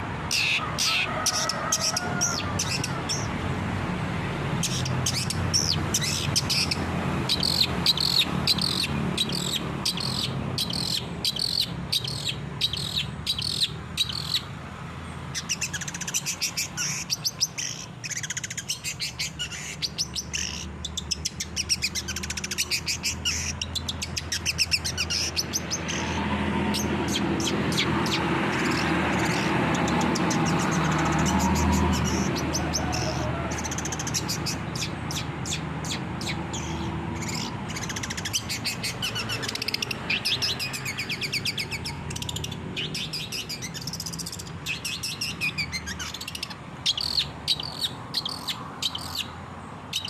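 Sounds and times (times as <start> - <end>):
bird chattering song: 0.0 - 3.4, 4.5 - 50.0.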